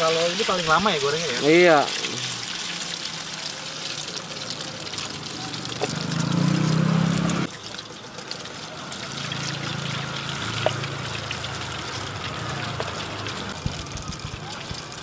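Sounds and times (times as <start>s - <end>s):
oil sizzling and popping: 0.0s - 15.0s.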